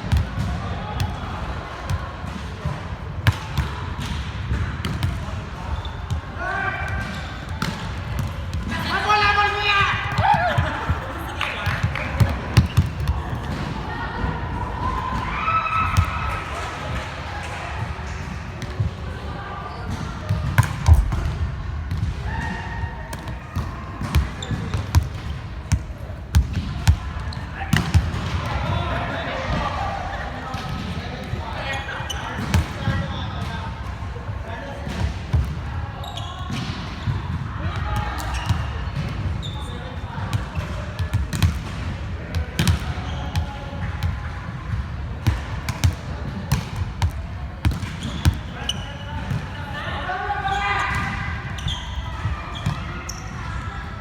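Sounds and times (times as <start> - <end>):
volleyball smacks in hall: 0.0 - 33.8, 34.7 - 49.5
indoor gym noise: 0.0 - 54.0.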